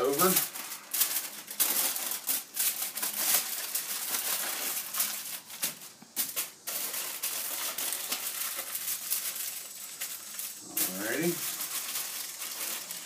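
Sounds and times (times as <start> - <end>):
aluminum foil crinkling: 0.0 - 13.0.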